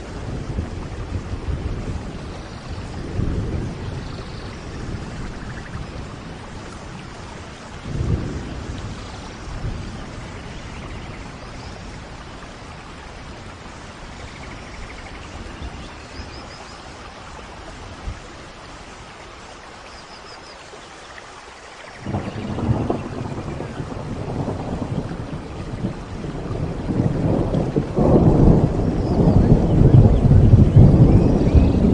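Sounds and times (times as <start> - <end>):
thunder rumbles: 0.0 - 18.6, 22.0 - 31.9
steady rain: 0.0 - 31.9.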